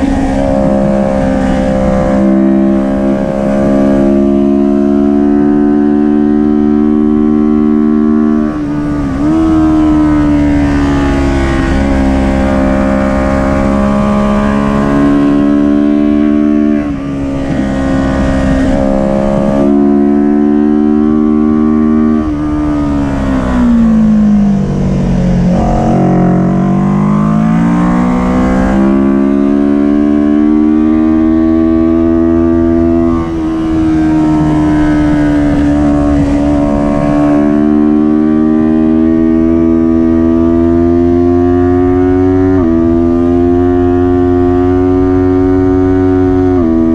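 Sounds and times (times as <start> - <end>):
motorcycle engine revving high: 0.0 - 46.9.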